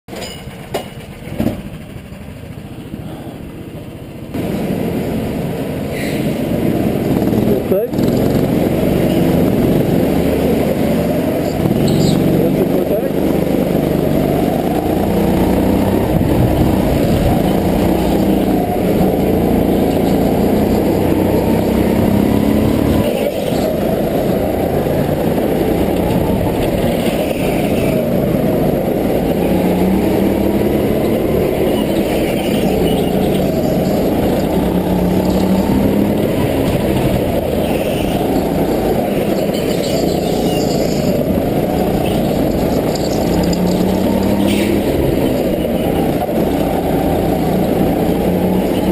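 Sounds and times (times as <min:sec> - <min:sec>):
go-kart engine revving: 0:01.0 - 0:48.9.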